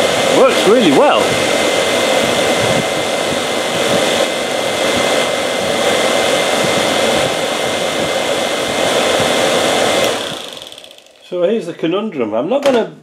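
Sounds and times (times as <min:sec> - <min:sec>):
blower fan whirring: 0:00.0 - 0:12.7.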